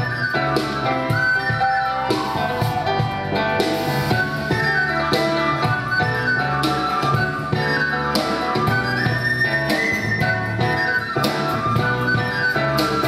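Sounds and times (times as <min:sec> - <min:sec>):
drum kit and cymbals: 0:00.0 - 0:13.0
flute melody: 0:00.0 - 0:13.0.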